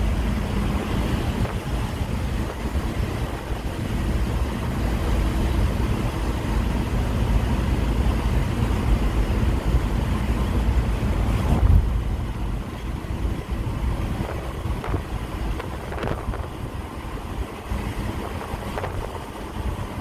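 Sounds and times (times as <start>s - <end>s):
road and engine rumble in van: 0.0s - 20.0s.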